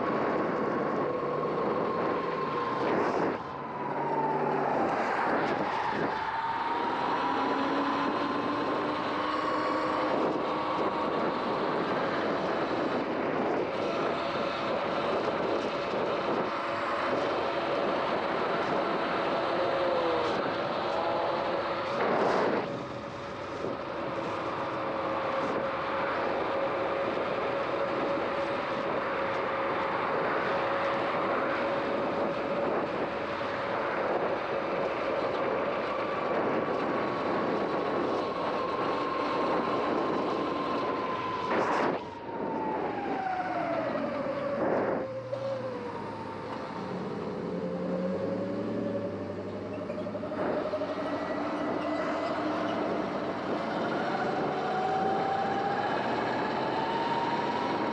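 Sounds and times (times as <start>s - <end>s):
wind rush: 0.0s - 57.9s.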